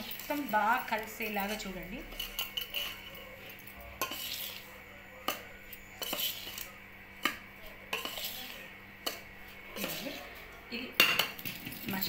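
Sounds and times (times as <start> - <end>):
spoon clinking against metal pot: 0.0 - 4.6, 5.2 - 10.2, 11.0 - 12.0
spoon scraping spice powder: 0.0 - 10.5.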